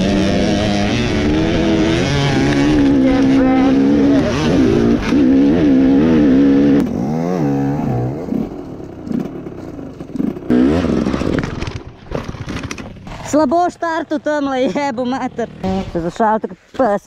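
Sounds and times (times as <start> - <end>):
dirt bike engine revving: 0.0 - 16.5.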